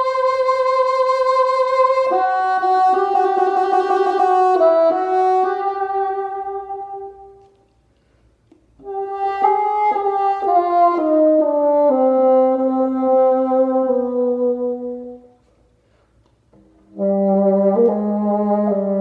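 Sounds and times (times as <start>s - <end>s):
bassoon playing slow notes: 0.0s - 7.5s, 8.8s - 15.4s, 16.6s - 19.0s.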